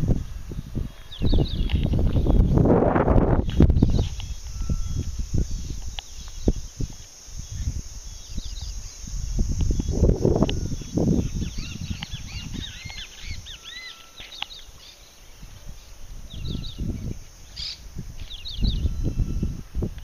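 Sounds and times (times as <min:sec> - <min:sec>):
wind rumble on microphone: 0:00.0 - 0:20.0
birds chirping and whistling: 0:00.6 - 0:19.9.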